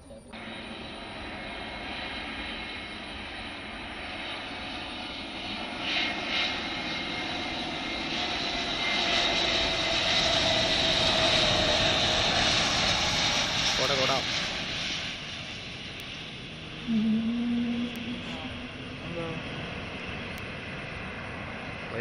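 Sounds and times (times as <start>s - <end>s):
airliner engines roaring: 0.0s - 22.0s.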